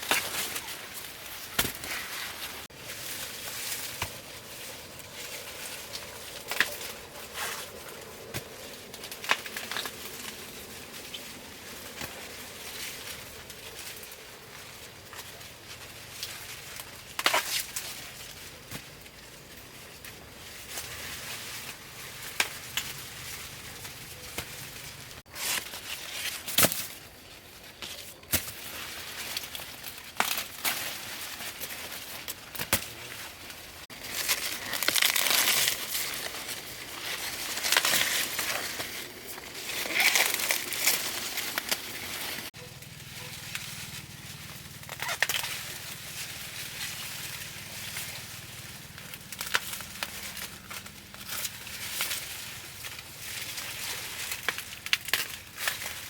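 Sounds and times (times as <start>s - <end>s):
rustling crinkling handling noise: 0.0s - 56.0s.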